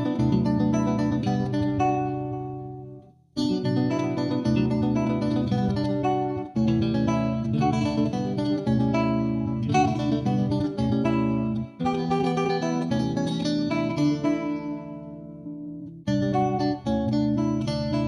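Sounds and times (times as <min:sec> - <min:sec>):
plucked and strummed guitar music: 0:00.0 - 0:18.0.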